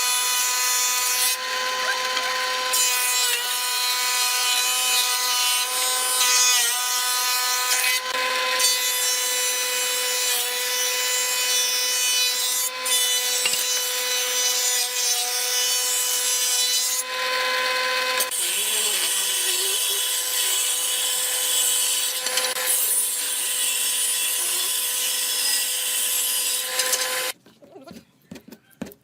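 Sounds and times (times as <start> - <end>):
power tool cutting wood: 0.0 - 27.4.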